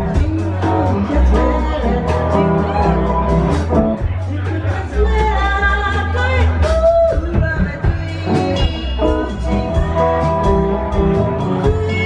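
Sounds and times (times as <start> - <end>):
rock band playing live: 0.0 - 12.0
woman singing: 0.0 - 12.0.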